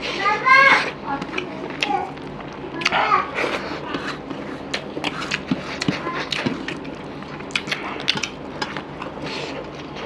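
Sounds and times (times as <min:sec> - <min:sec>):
chewing: 0:00.7 - 0:10.0.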